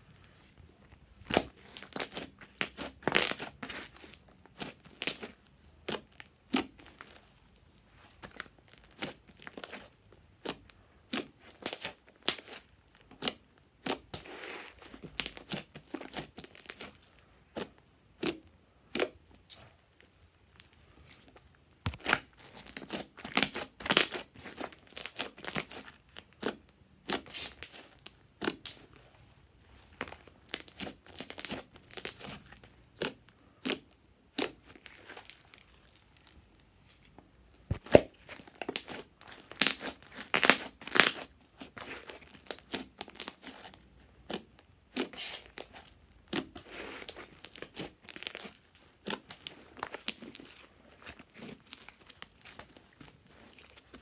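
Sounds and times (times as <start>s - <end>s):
sticky slime crackles and pops: 1.2s - 7.4s, 8.1s - 19.2s, 21.8s - 29.0s, 29.8s - 36.3s, 37.7s - 54.0s.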